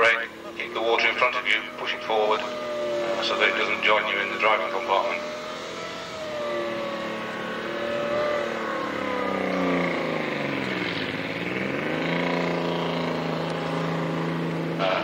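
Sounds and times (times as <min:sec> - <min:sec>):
tracked vehicle engine: 0:00.0 - 0:15.0.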